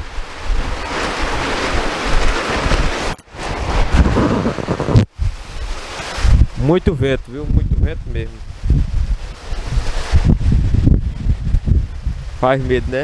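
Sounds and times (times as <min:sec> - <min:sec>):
gusting wind buffeting microphone: 0:00.0 - 0:13.0
rain: 0:00.0 - 0:13.0
plastic tarp flapping: 0:00.3 - 0:06.8, 0:08.1 - 0:12.4.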